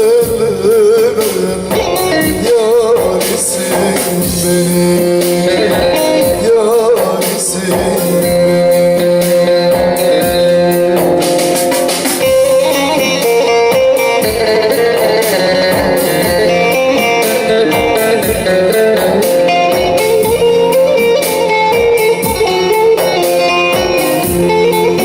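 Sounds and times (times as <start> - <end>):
man singing: 0.0 - 25.0
plucked string instruments: 1.6 - 25.0.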